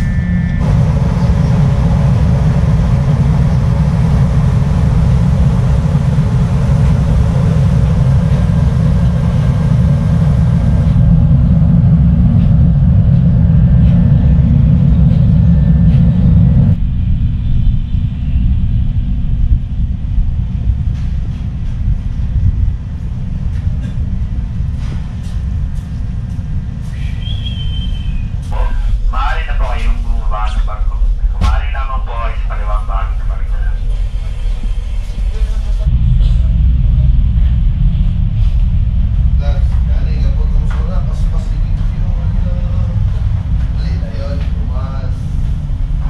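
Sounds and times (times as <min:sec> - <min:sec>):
ship engine rumble: 0:00.0 - 0:46.0
wind buffeting microphone: 0:00.0 - 0:46.0.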